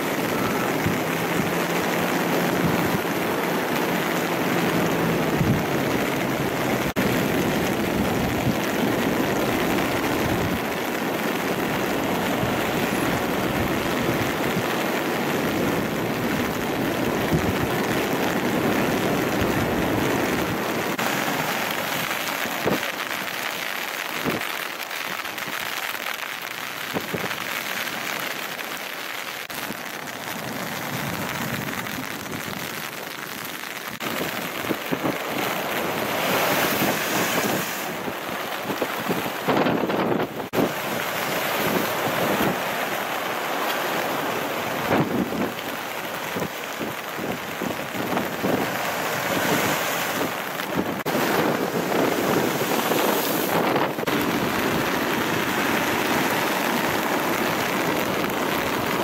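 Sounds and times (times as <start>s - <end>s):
waves breaking: 0.0s - 59.0s
waves splashing over rocks: 0.0s - 59.0s.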